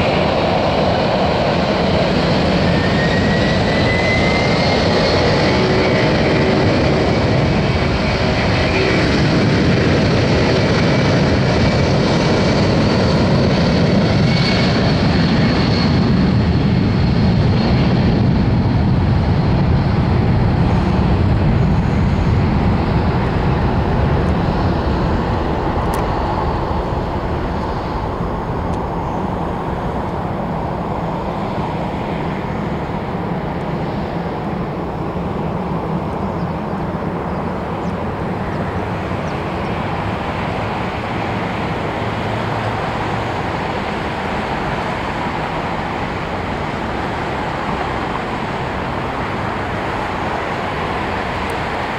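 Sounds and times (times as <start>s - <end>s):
jet engine roar: 0.0s - 51.9s.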